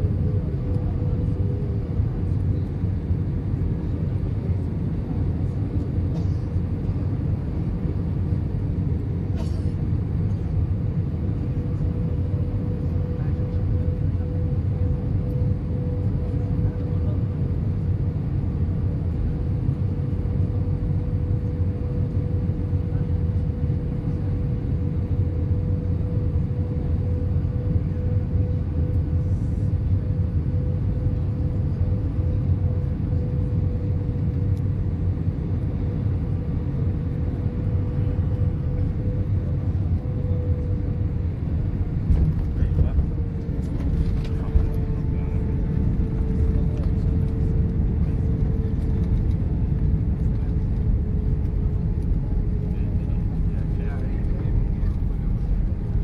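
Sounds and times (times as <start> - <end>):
low rumble of engines and air: 0.0 - 56.0
steady humming tone: 0.0 - 56.0.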